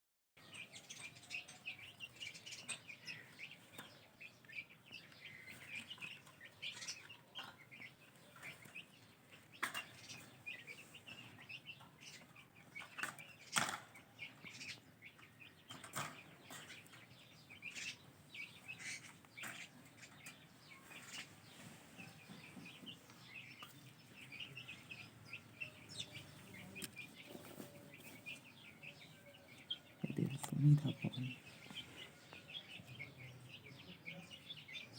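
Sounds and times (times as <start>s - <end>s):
parrot chicks chirping: 0.4s - 34.9s.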